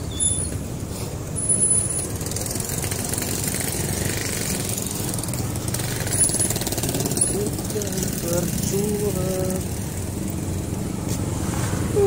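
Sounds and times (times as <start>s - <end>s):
steady engine hum: 0.0s - 12.0s
motorcycle passing by: 1.6s - 12.0s.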